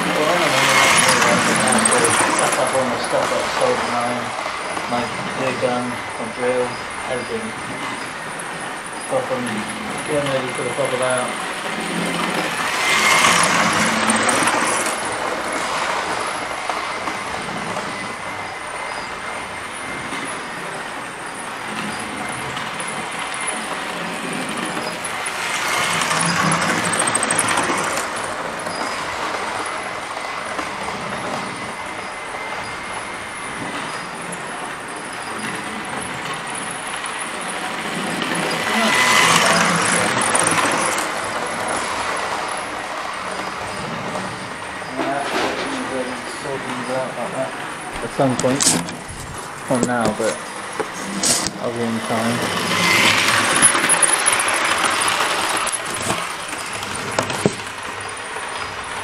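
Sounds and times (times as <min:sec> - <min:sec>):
model train rumbling on track: 0:00.0 - 0:59.0.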